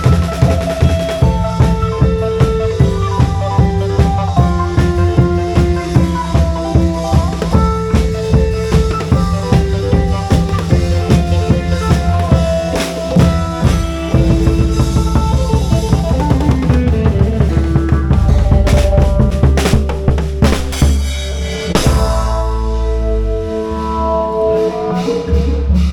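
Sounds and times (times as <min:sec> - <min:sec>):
melodic line of held notes: 0:00.0 - 0:20.9
rapid drum beats: 0:00.0 - 0:23.5
heavy bass: 0:00.0 - 0:25.9.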